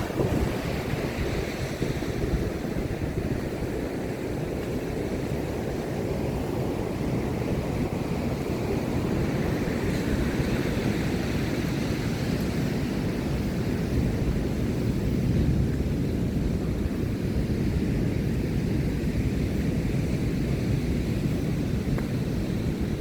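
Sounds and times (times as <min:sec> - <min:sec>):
ocean surf: 0:00.0 - 0:23.0
wind buffeting microphone: 0:00.0 - 0:23.0.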